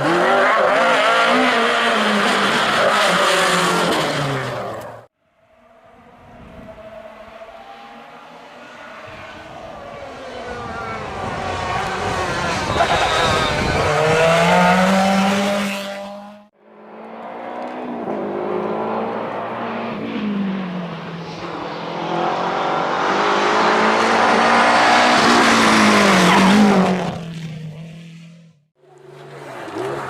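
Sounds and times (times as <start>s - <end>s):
car passing through gears: 0.0s - 28.4s
rally car engine at full throttle: 0.0s - 30.0s.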